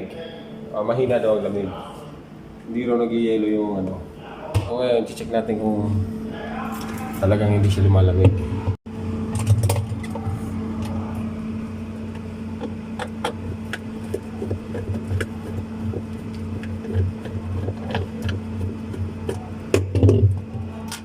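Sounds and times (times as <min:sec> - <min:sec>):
refrigerator humming: 0:00.0 - 0:21.0.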